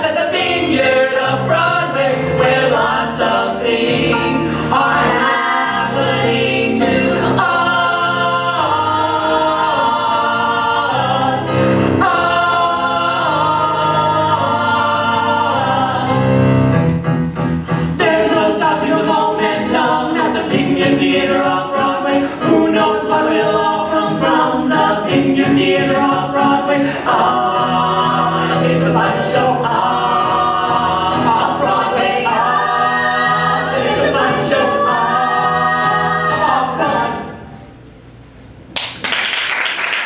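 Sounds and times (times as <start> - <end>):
group singing in close harmony: 0.0 - 16.6, 17.9 - 37.5.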